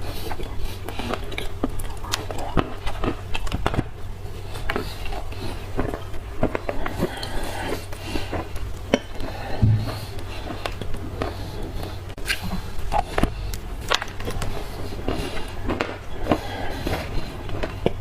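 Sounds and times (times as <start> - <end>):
crunching and chewing clay: 0.0 - 18.0.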